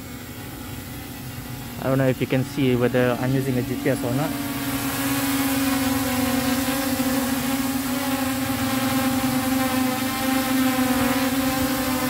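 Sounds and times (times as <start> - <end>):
quadcopter buzzing hum: 0.0 - 12.0.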